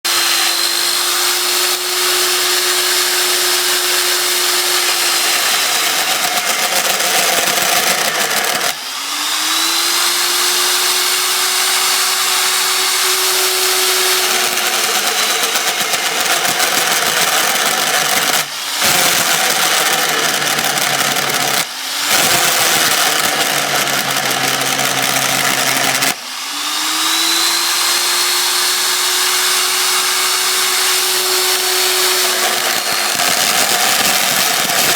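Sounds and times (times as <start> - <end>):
hole saw cutting: 0.0 - 34.9
drill motor whine: 0.1 - 34.9.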